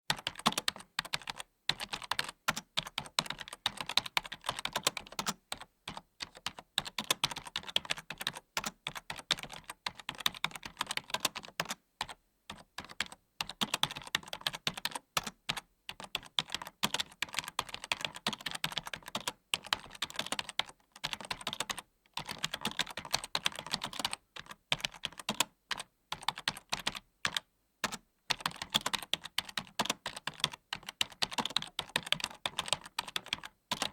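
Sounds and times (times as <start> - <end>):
computer keyboard typing: 0.1 - 33.9.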